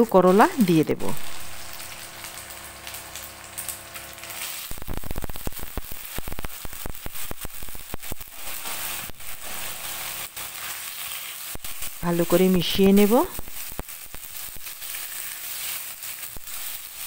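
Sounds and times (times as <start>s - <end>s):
oil sizzling and spattering: 0.0s - 17.0s.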